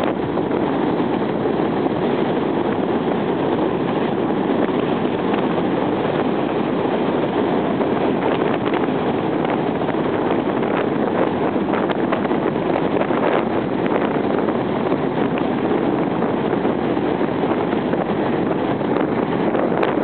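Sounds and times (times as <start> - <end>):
strong wind on microphone: 0.0 - 20.0.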